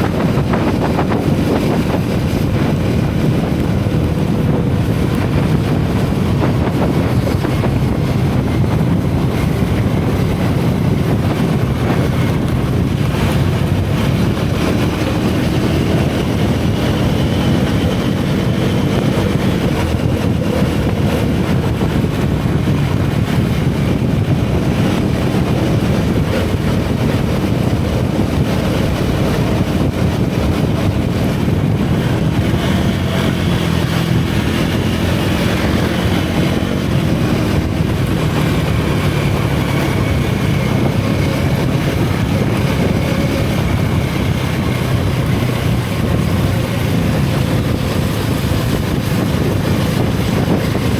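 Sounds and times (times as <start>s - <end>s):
motorcycle engine running: 0.0s - 50.9s
wind on microphone: 0.0s - 50.9s.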